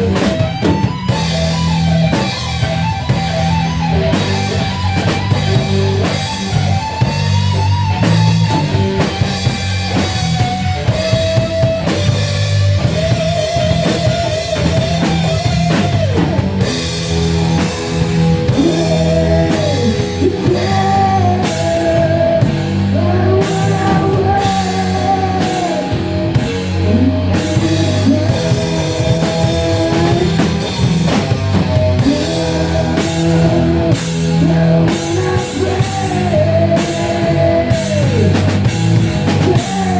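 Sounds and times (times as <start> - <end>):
drum kit: 0.0 - 39.9
electric guitar: 0.0 - 39.9
rock band playing: 0.0 - 39.9.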